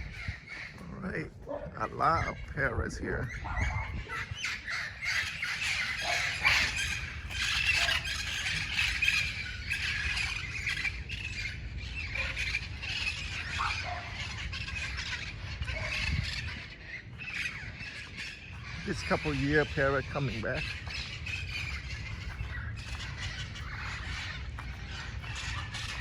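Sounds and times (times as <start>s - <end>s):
parrots squawking: 0.0s - 26.0s.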